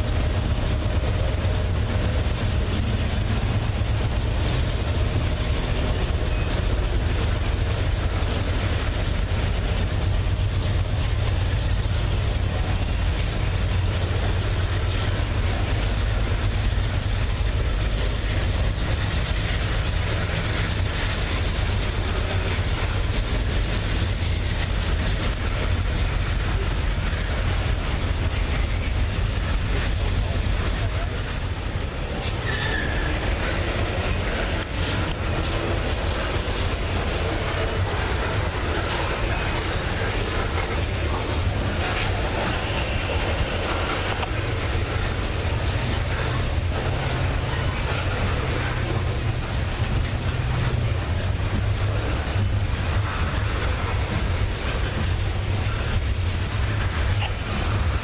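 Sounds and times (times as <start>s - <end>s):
diesel locomotives rumbling: 0.0s - 58.0s.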